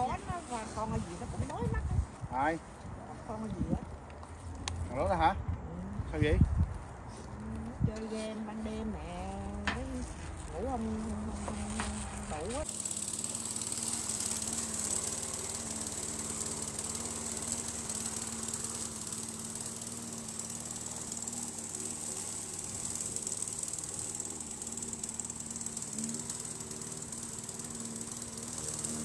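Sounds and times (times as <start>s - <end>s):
lawn mower running: 0.0s - 29.0s.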